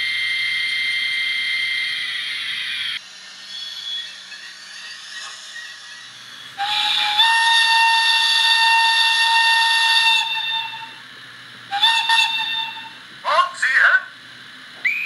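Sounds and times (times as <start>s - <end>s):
locomotive whistle: 0.0s - 11.0s, 11.7s - 13.0s.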